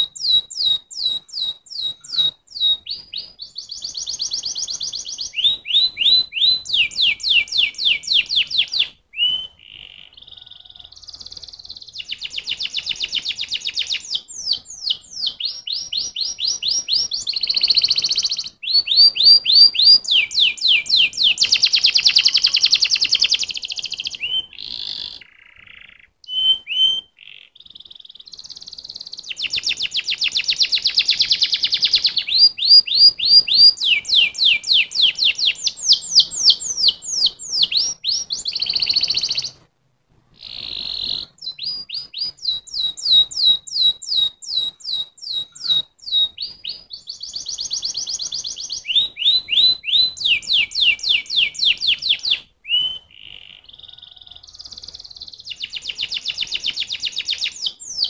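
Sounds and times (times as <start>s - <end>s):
canary singing: 0.0s - 39.7s, 40.4s - 58.0s.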